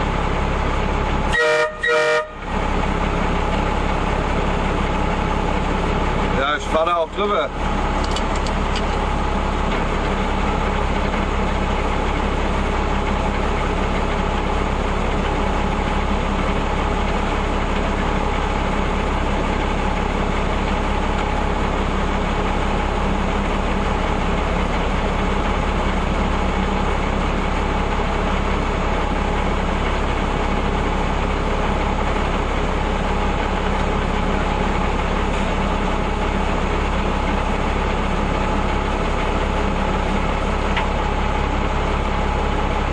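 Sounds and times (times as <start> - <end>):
steady whine: 0.0 - 42.9
truck engine running: 0.0 - 42.9.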